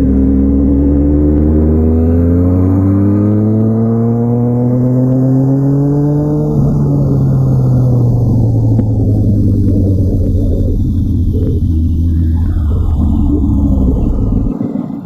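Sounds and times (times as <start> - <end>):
motorcycle engine revving: 0.0 - 14.7.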